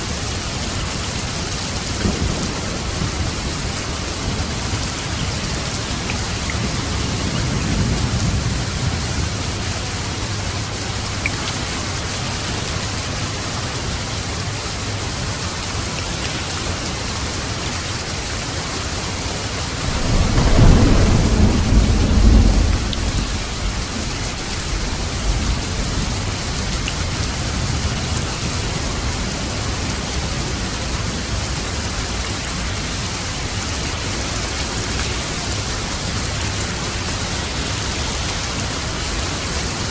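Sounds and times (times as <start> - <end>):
low rumble of thunder: 0.0 - 15.7, 19.6 - 39.9
steady rain falling: 0.0 - 39.9.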